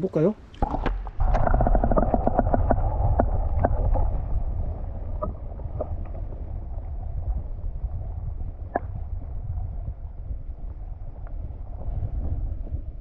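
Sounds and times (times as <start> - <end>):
wind buffeting microphone: 0.4 - 13.0.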